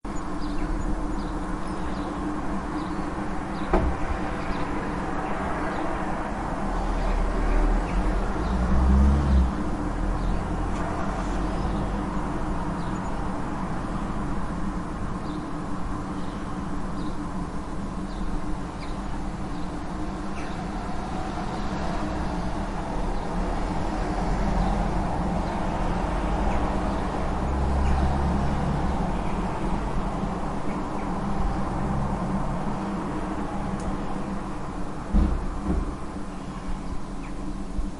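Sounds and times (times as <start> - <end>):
traffic rumble: 0.0 - 37.9
cars passing by: 0.1 - 37.9.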